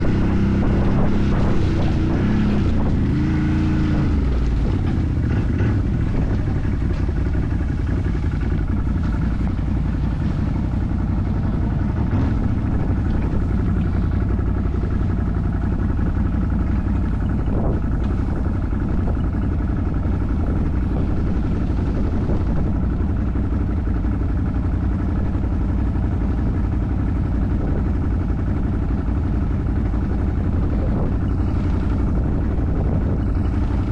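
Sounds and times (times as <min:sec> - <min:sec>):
off-road vehicle engine running: 0:00.0 - 0:33.9.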